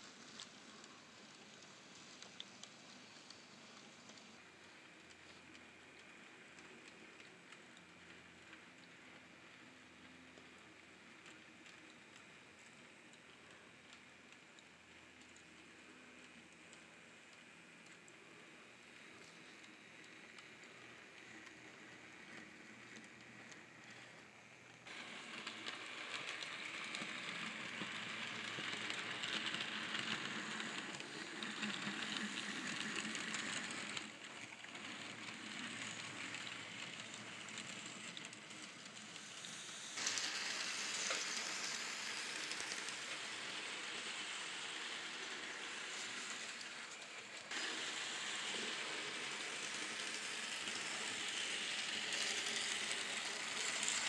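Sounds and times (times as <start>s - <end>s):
model train running on track: 0.0s - 54.0s.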